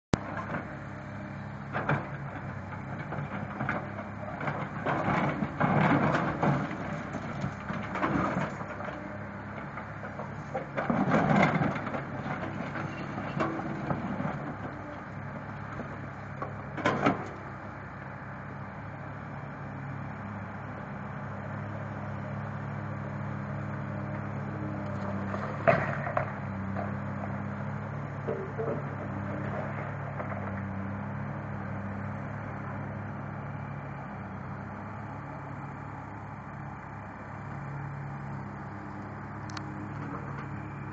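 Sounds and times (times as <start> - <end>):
excavator engine running: 0.1 - 40.9.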